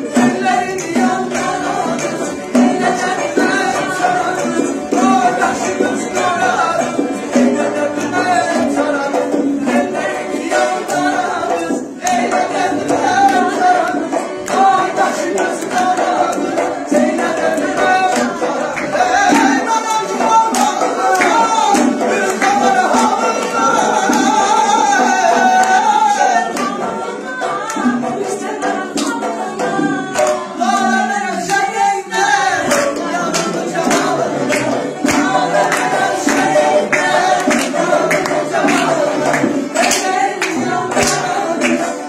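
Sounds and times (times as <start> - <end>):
dance music instruments: 0.0 - 42.0
hand percussion beat: 0.0 - 42.0
person singing: 0.0 - 42.0.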